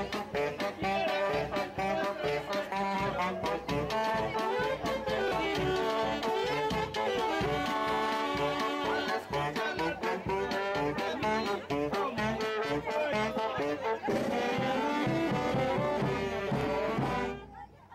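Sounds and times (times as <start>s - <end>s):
brass band music: 0.0s - 17.6s.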